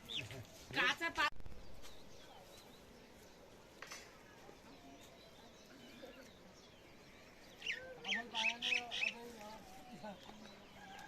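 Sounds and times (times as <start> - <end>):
faint distant bird chirps: 1.4 - 11.0.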